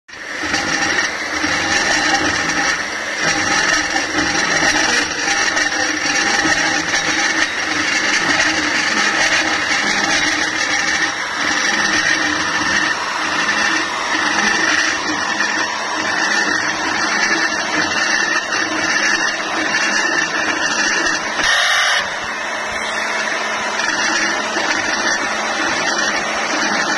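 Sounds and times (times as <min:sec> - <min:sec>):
magnetic drill cutting pipe: 0:00.1 - 0:26.9.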